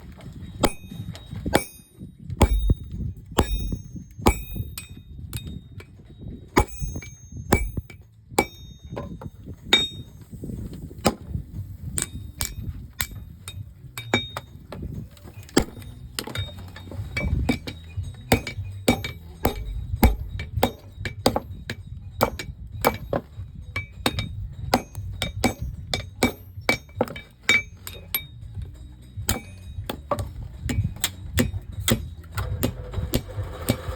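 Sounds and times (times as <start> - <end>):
hammer striking iron on anvil: 0.6 - 10.2, 11.0 - 33.9
low rumble: 2.3 - 33.9.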